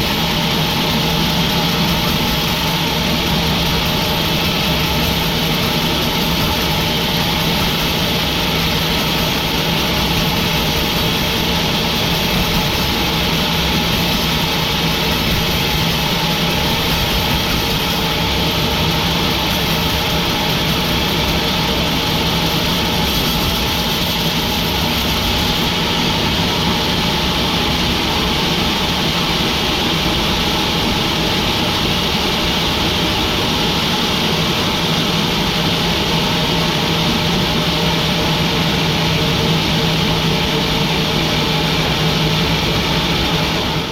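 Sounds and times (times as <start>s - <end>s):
sawmill machinery drone: 0.0s - 43.9s.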